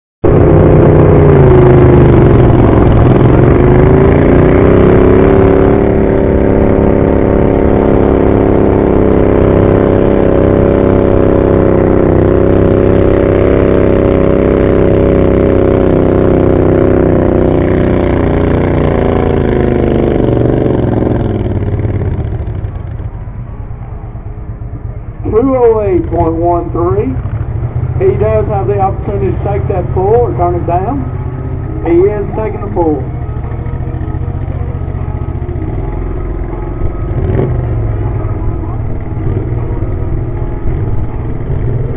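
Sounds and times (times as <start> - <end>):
tractor engine at high revs: 0.2 - 24.0, 24.6 - 41.9.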